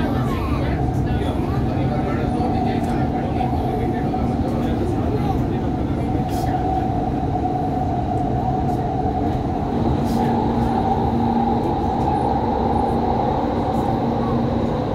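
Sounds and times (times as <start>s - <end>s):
train rumble with humming tone: 0.0s - 14.9s.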